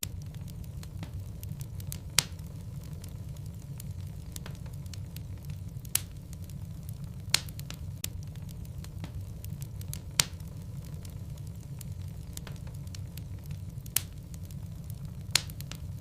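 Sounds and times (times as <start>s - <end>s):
low fire rumble: 0.0s - 16.0s
sharp pops of burning wood: 0.0s - 16.0s
small crackles: 0.0s - 16.0s.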